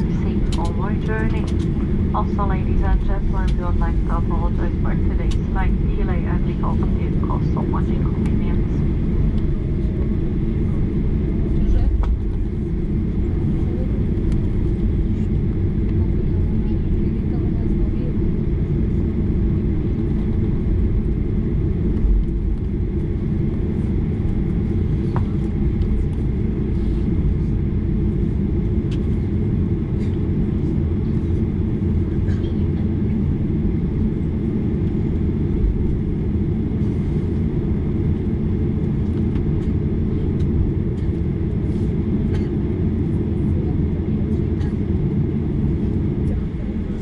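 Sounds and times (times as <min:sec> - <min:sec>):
jet engines idling: 0:00.0 - 0:47.0.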